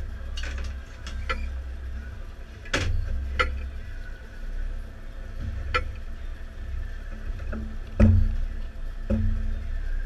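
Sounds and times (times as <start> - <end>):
low boat rumble: 0.0 - 10.0.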